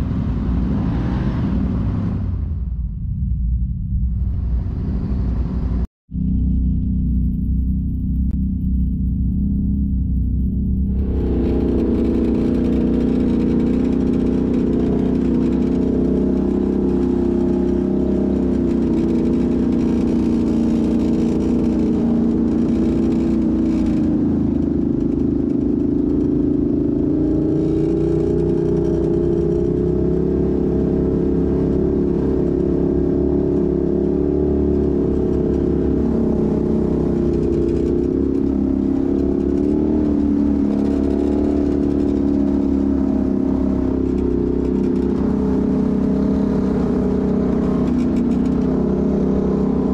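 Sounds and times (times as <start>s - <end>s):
low rumble: 0.0s - 49.9s
off-road vehicle engine running: 0.0s - 49.9s.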